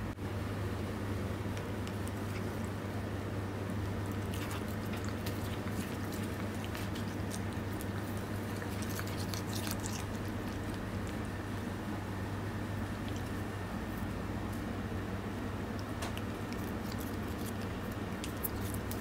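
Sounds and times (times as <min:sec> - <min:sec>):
steady low hum: 0:00.0 - 0:19.0
cat chewing grass: 0:01.4 - 0:19.0.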